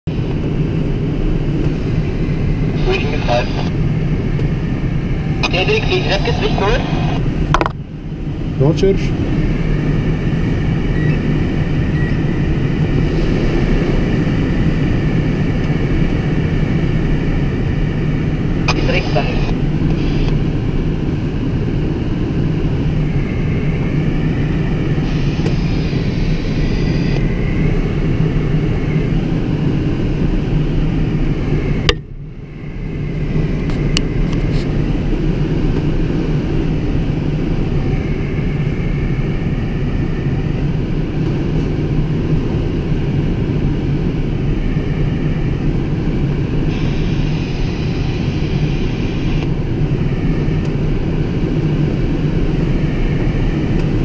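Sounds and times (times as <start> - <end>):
air rushing around cockpit: 0.1 - 54.0.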